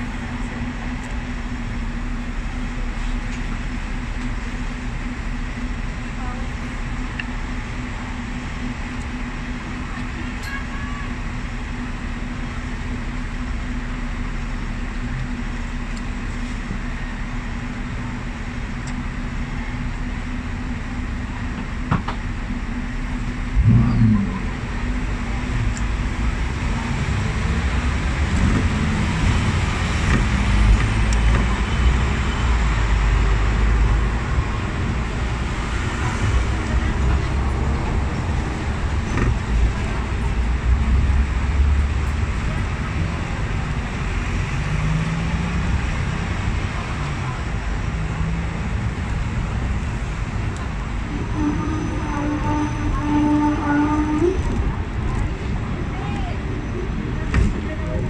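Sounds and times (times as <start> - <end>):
tram thump: 0.0 - 45.0, 45.7 - 58.0
road traffic: 0.0 - 58.0
tram humming: 0.0 - 58.0
wheels rumbling on rails: 0.0 - 58.0.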